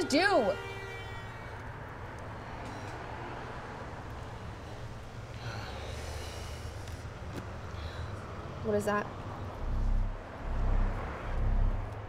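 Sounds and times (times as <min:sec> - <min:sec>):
distant traffic hum: 0:00.0 - 0:12.0.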